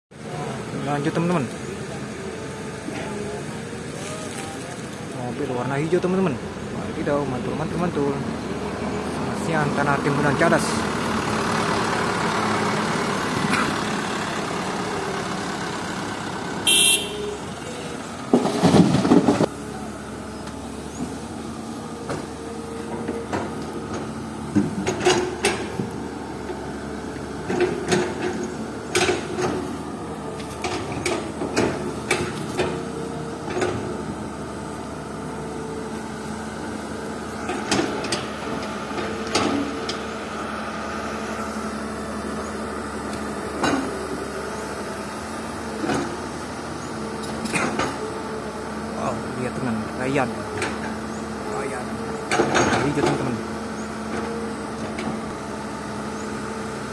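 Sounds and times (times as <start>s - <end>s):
diesel engines running: 0.1s - 56.9s.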